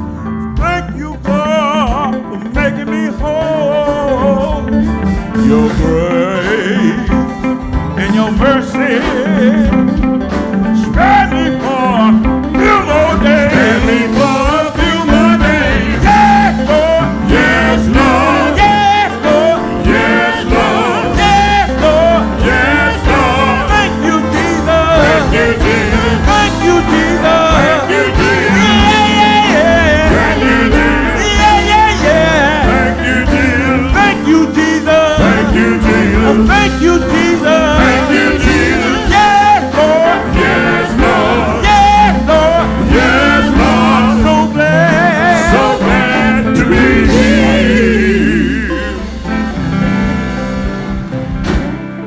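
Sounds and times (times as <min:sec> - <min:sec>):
person singing gospel: 0:00.0 - 0:50.4
band with bass and drums: 0:00.0 - 0:52.0.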